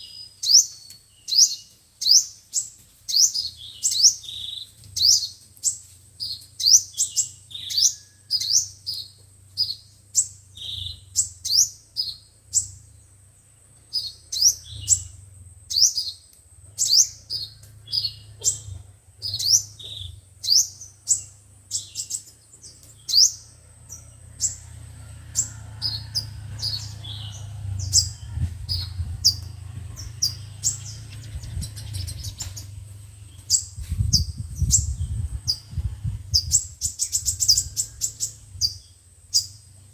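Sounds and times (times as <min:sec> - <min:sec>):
sunbirds chirping: 0:00.0 - 0:39.9.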